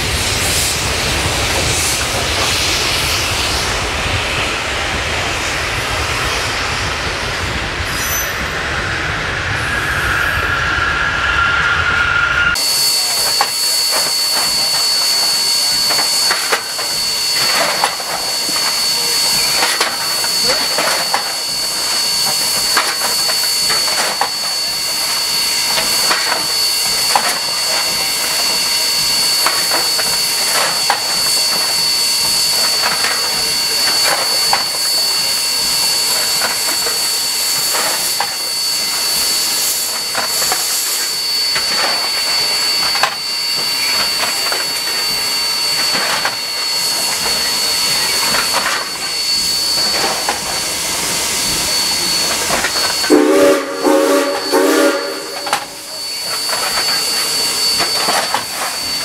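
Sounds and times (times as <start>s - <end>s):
freight train wheels rumbling: 0.0s - 59.0s
steam hiss: 0.0s - 59.0s
wheel squeal: 7.8s - 59.0s.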